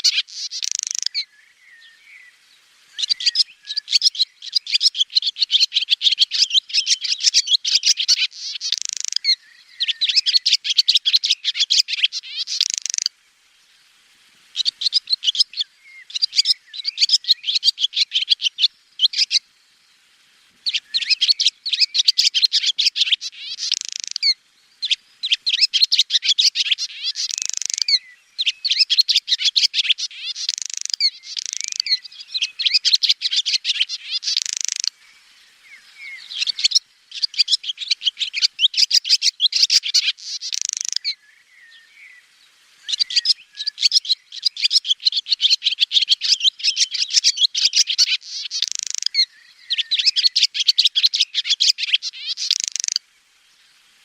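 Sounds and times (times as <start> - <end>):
swallow twittering: 0.0 - 2.3, 2.9 - 13.1, 14.6 - 19.4, 20.6 - 42.2, 42.8 - 53.0.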